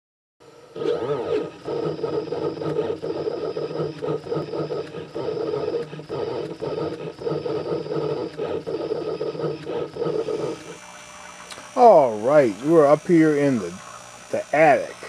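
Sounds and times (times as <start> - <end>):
stepper motors running: 0.4 - 15.0.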